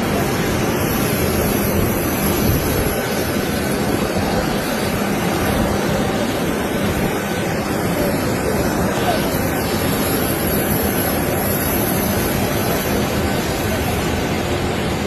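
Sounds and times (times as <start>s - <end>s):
faint steady whine: 0.0s - 15.0s
jet engines roaring: 0.0s - 15.0s.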